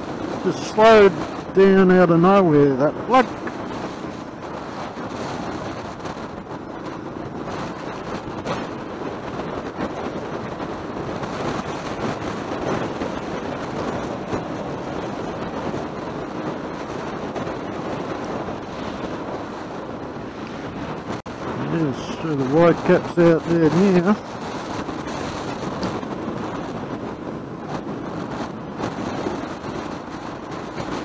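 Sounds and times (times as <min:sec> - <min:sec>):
wind buffeting a camera: 0:00.0 - 0:31.0.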